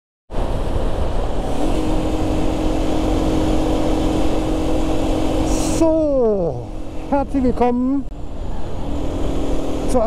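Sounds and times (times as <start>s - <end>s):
motorcycle engine running: 1.4s - 10.0s.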